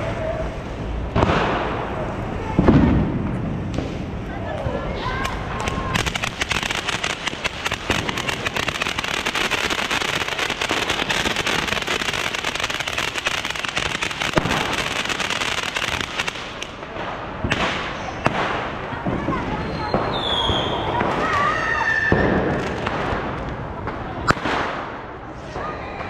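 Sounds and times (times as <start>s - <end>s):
firework fountain crackling: 0.0s - 26.0s.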